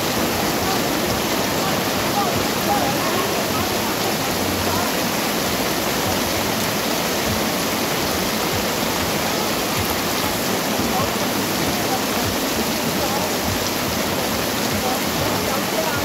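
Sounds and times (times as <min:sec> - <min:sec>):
heavy rain on pavement and awnings: 0:00.0 - 0:16.0.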